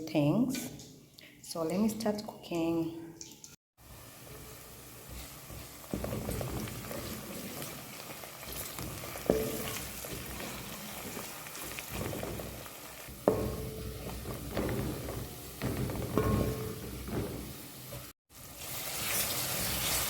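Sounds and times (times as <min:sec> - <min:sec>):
food sizzling in hot oil: 0:03.8 - 0:20.0.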